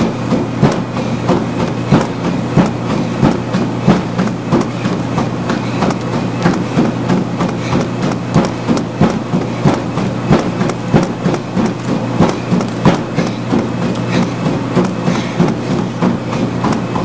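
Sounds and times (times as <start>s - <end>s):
bare feet slapping treadmill: 0.0s - 17.0s
treadmill motor humming: 0.0s - 17.0s.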